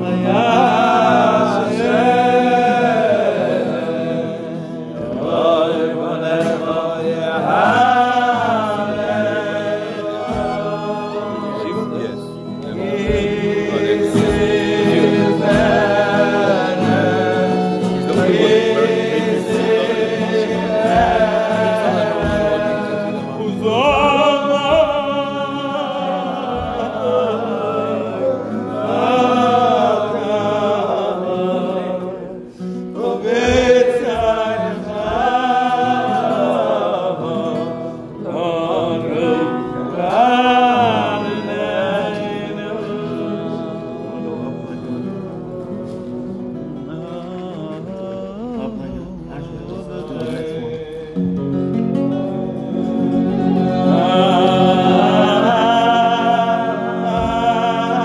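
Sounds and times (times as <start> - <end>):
group of voices singing: 0.0 - 58.0.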